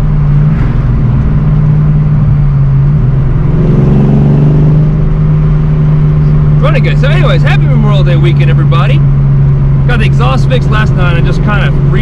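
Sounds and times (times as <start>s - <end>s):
car engine running while driving: 0.0s - 12.0s.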